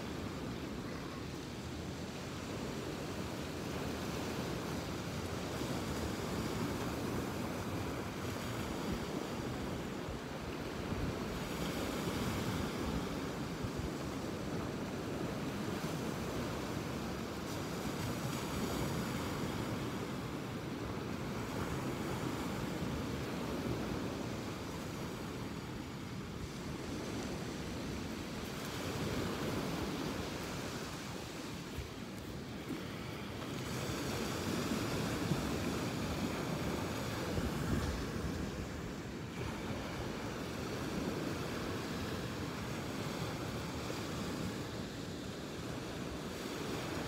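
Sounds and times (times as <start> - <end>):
waves breaking on beach: 0.0 - 47.0.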